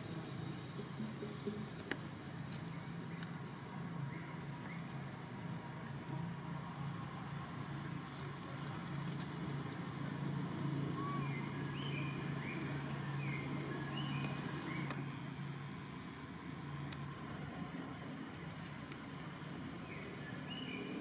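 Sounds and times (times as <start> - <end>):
high insect whine: 0.0 - 21.0
steady low hum: 0.0 - 21.0.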